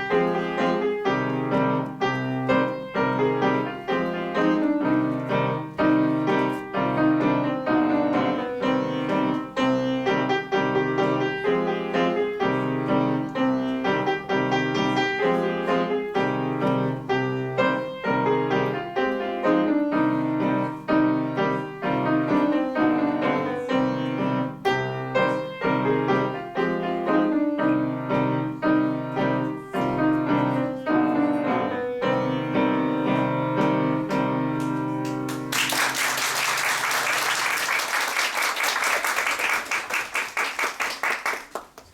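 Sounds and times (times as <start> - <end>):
solo piano classical piece: 0.0 - 35.6.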